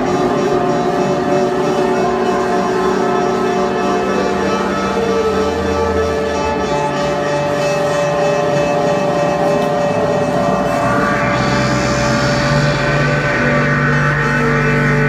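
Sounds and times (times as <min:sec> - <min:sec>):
deep drone: 0:00.0 - 0:15.0
electronic drone music: 0:00.0 - 0:15.0.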